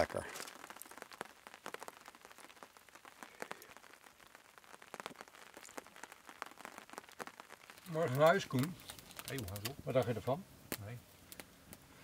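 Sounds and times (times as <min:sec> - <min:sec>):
faint raindrops ticking: 0:00.0 - 0:12.0.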